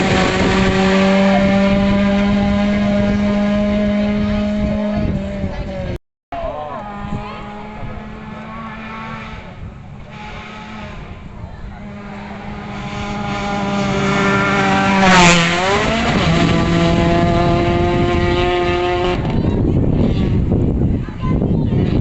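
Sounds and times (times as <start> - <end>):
rally car engine passing: 0.0 - 6.0, 6.6 - 20.6.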